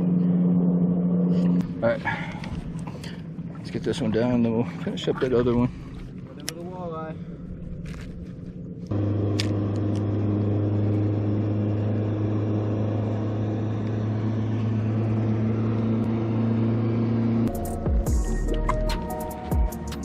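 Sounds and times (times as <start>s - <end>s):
boat motor humming: 0.0s - 20.0s.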